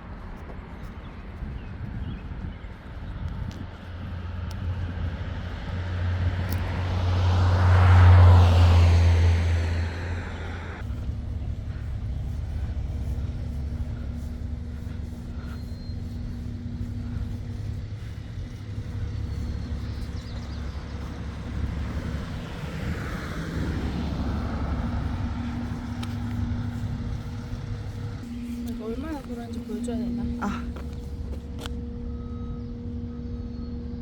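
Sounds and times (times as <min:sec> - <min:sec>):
traffic rumble: 0:00.0 - 0:34.0
vehicle passing: 0:03.6 - 0:33.2.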